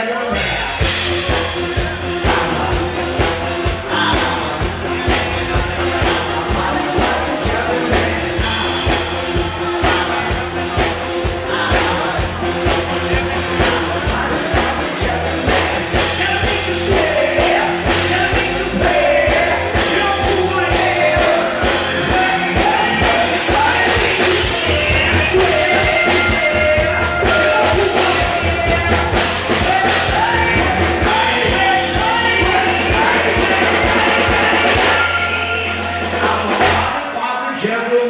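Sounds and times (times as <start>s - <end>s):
live rock band: 0.0s - 38.0s
men singing: 0.0s - 38.0s.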